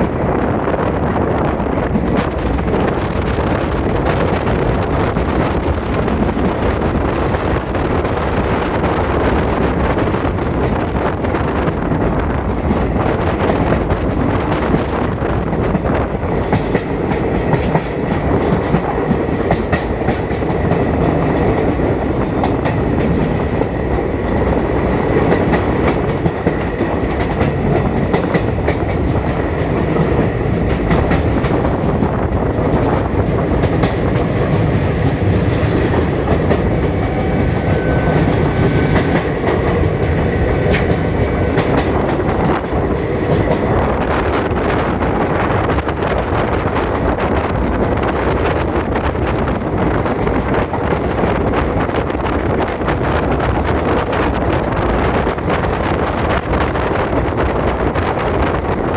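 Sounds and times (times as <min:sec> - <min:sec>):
train rumbling: 0:00.0 - 0:58.9.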